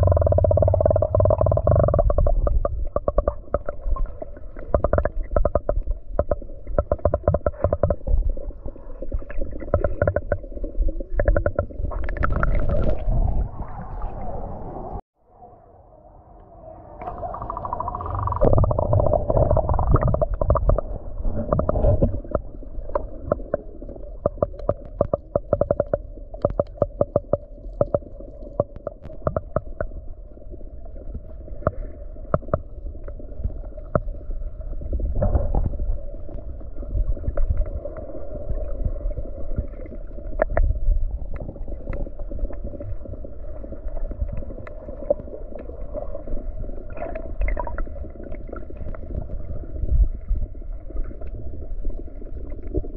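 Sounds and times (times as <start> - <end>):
sharp underwater clicks and crackles: 0.0 - 13.3, 17.1 - 52.9
underwater rumble and surge: 0.0 - 52.9.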